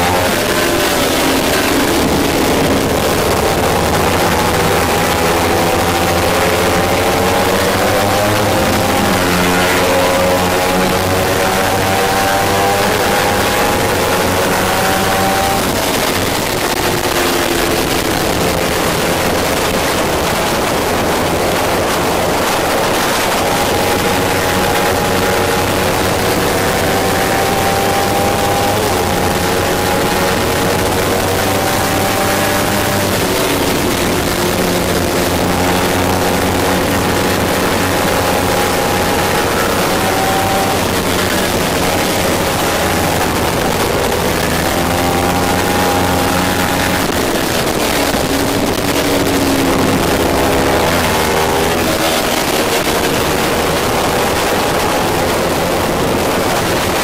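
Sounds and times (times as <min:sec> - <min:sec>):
motorcycle engine running hard: 0:00.0 - 0:57.0
wind rush: 0:00.0 - 0:57.0.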